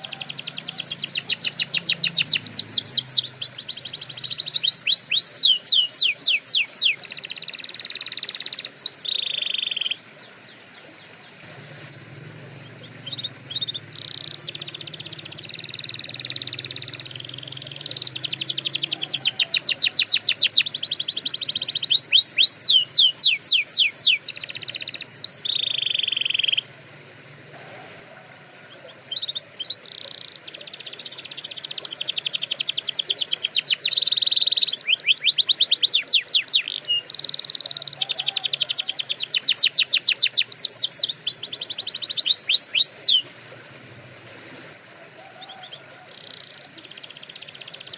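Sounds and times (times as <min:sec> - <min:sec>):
canary singing trills: 0:00.0 - 0:26.8, 0:27.5 - 0:47.9.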